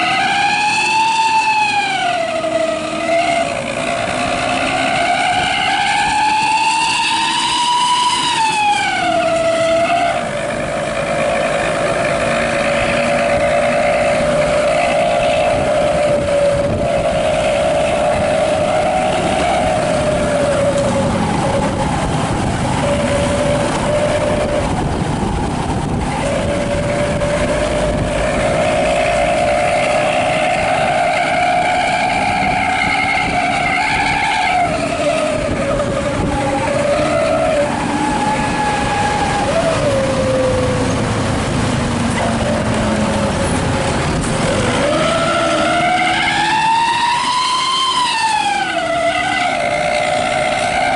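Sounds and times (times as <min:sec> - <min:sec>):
bus exhaust howling: 0:00.0 - 0:50.9.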